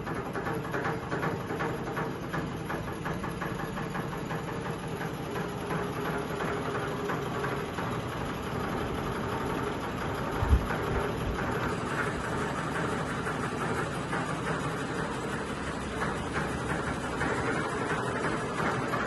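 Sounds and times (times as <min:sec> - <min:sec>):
ceiling fan whirring: 0:00.0 - 0:19.0.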